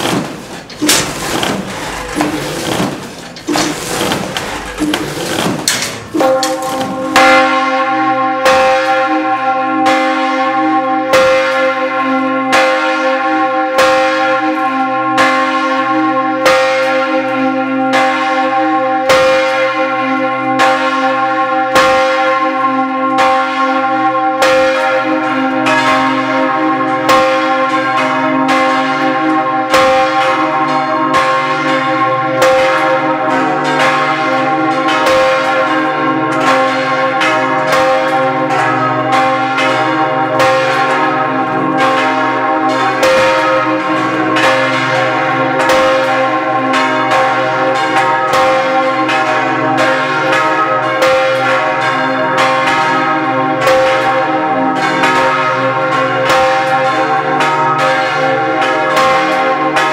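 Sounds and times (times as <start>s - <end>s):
church bells ringing a full peal: 0.0s - 59.9s.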